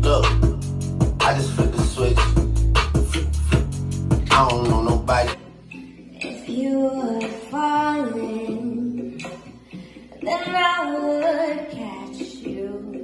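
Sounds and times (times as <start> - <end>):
faint backing music: 0.0 - 13.0.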